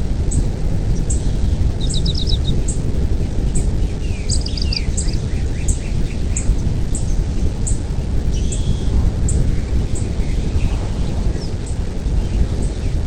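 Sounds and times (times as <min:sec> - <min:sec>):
low rumbling noise: 0:00.0 - 0:13.0
birds chirping: 0:00.3 - 0:13.0.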